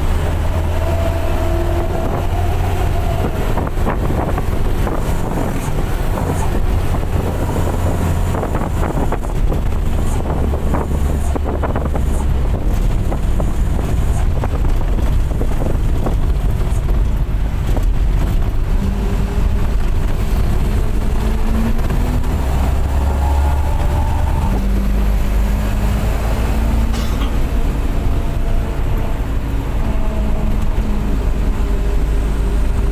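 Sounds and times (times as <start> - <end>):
bus engine drone: 0.0 - 32.9
road rumble: 0.0 - 32.9
wind buffeting microphone: 0.0 - 32.9.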